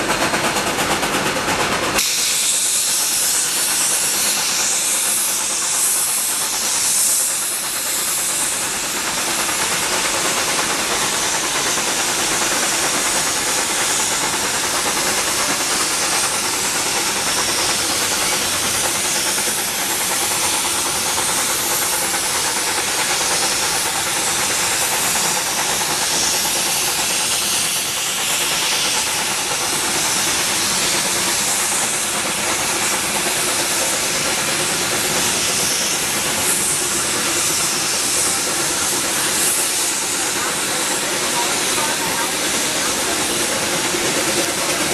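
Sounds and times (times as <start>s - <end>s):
steam locomotive exhaust hissing: 0.0s - 44.9s.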